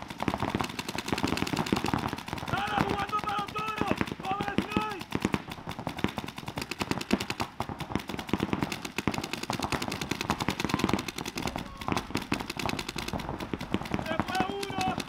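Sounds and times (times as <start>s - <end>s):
paintball markers firing rapidly: 0.0s - 15.0s.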